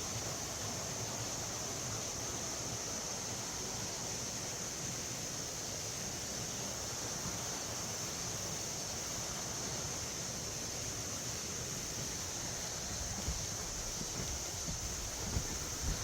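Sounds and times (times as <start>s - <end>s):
high-pitched hiss: 0.0s - 16.0s
stream rushing: 0.0s - 16.0s.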